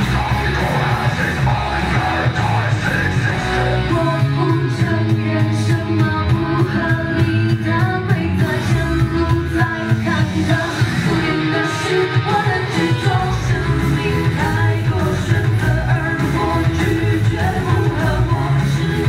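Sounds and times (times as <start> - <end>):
live rock-pop song: 0.0 - 19.0
woman singing: 2.5 - 19.0.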